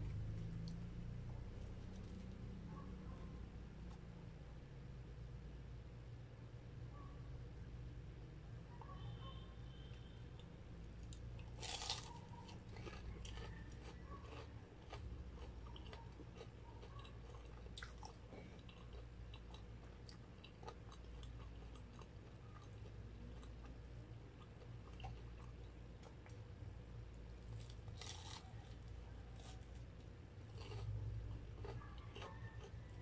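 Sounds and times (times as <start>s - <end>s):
crunchy chewing: 0.0s - 4.1s, 8.8s - 33.0s
faint low hum: 0.0s - 33.0s.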